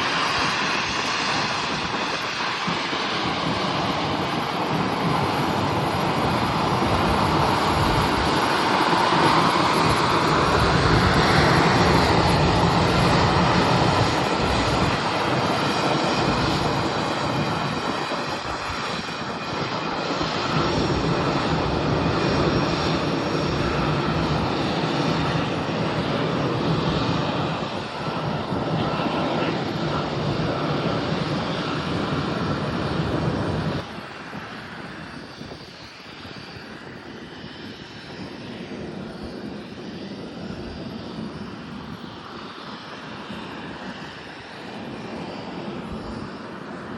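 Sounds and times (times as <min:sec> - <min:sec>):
airliner engines running: 0:00.0 - 0:46.9.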